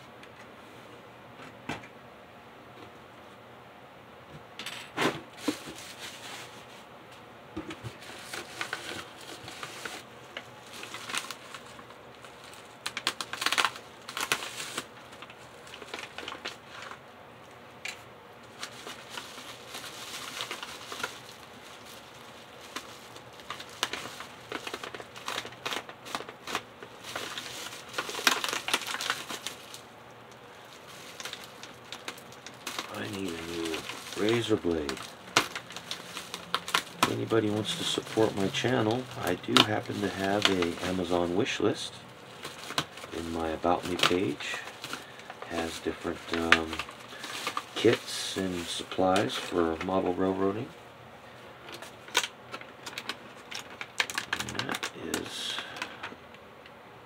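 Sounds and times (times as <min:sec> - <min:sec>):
bubble wrap crinkling: 0:05.3 - 0:06.9, 0:07.7 - 0:17.1, 0:17.8 - 0:56.2.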